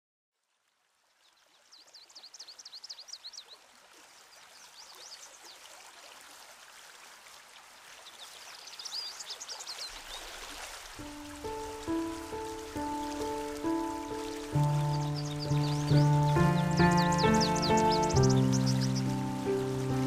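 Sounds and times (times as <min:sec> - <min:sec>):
rush like running water: 0:00.4 - 0:20.0
songbird chirping: 0:01.1 - 0:05.7, 0:07.9 - 0:20.0.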